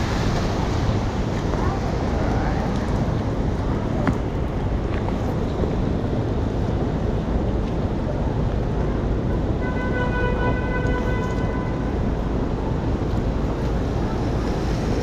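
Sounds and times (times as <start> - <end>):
city traffic rumbling: 0.0 - 15.0
rain: 0.0 - 15.0.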